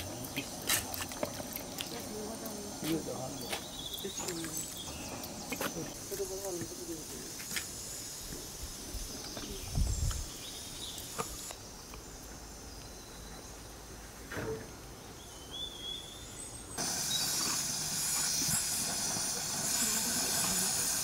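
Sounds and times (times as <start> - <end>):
faint insect chirr: 0.0 - 21.0.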